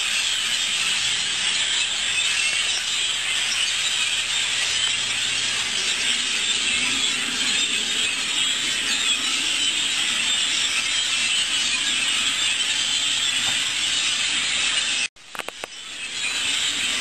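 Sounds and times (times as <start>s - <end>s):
flock of birds chattering: 0.0s - 17.0s.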